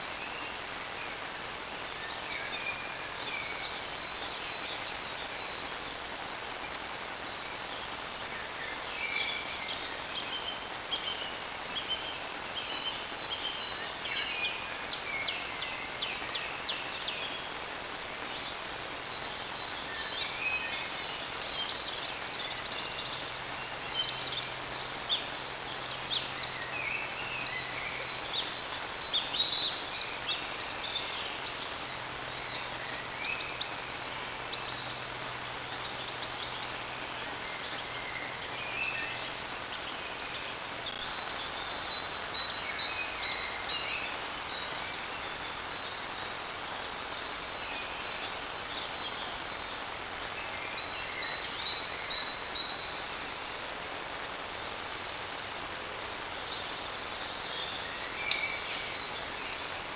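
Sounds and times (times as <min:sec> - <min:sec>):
microphone hiss: 0:00.0 - 0:59.9
small birds chirping: 0:00.0 - 0:59.9.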